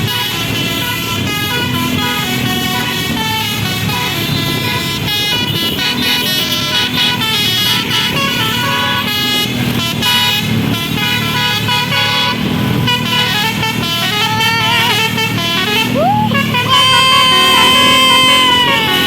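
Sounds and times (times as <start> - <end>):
bus air horn melody: 0.0 - 19.0.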